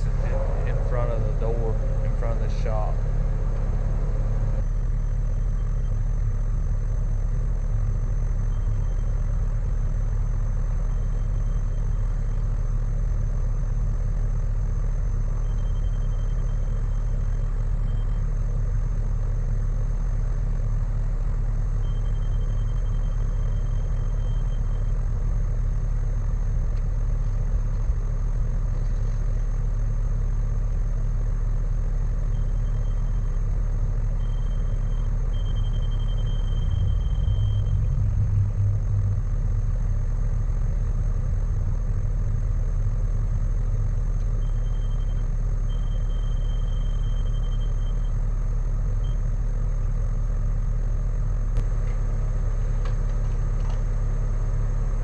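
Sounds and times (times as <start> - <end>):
skid steer engine idling: 0.0 - 55.0.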